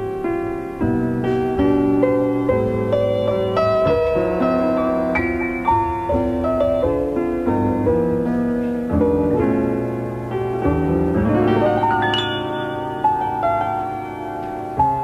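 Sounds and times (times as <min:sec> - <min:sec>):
jazz piano: 0:00.0 - 0:15.0.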